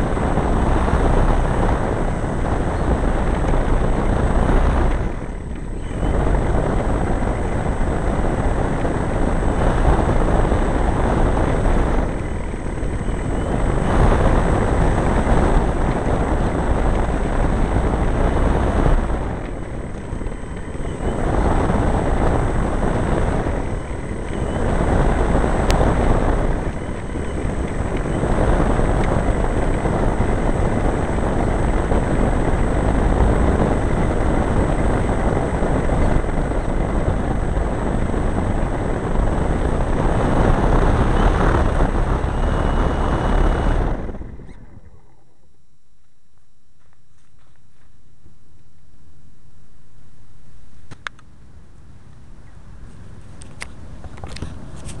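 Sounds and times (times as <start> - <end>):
model airplane engine and propeller: 0.0 - 45.7, 50.9 - 55.0.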